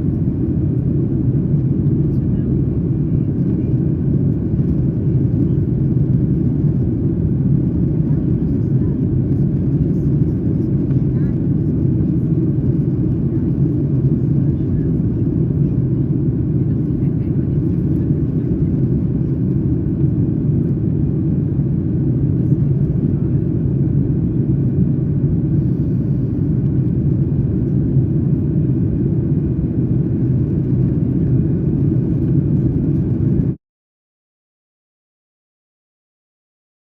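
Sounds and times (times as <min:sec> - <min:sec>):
engine and airflow rumble: 0:00.0 - 0:33.6.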